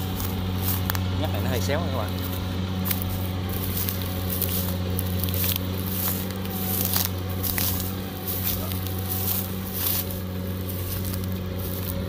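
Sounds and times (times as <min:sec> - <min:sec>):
combine harvester engine hum: 0:00.0 - 0:12.0
crackling of crop cutting: 0:00.0 - 0:12.0.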